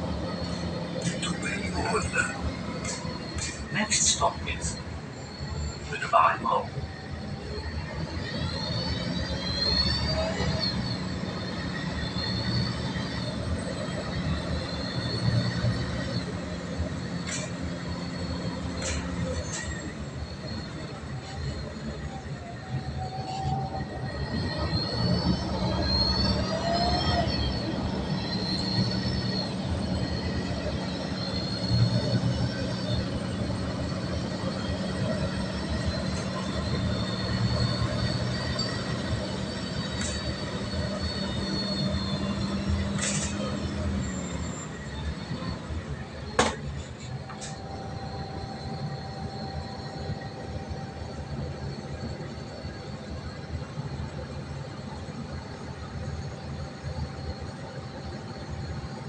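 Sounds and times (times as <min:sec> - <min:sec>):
bus engine and road rumble: 0:00.0 - 0:59.0
faint high whine: 0:08.6 - 0:59.0.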